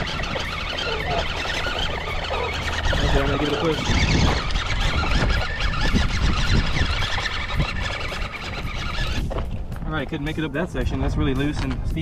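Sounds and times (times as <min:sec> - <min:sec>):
electric motor whining: 0:00.0 - 0:12.0
gravel crunching: 0:00.0 - 0:12.0
tyres scrabbling on dirt: 0:00.0 - 0:12.0.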